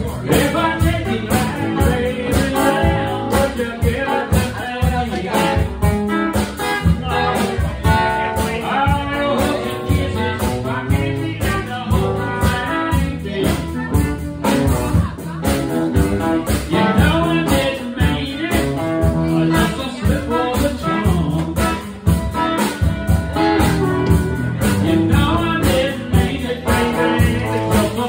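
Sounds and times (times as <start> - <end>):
guitars: 0.0 - 28.0
person singing: 0.0 - 28.0
steady beat: 0.0 - 28.0.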